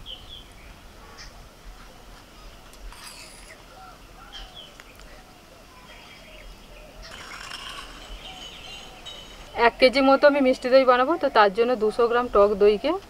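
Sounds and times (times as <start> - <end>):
birds chirping and calling: 2.4 - 13.0.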